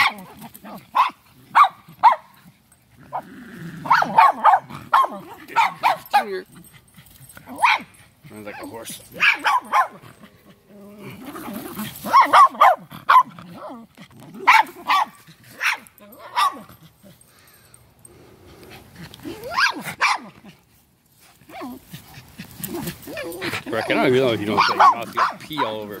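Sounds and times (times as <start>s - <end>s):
small dogs barking: 0.0s - 17.2s, 19.2s - 20.6s, 21.4s - 26.0s.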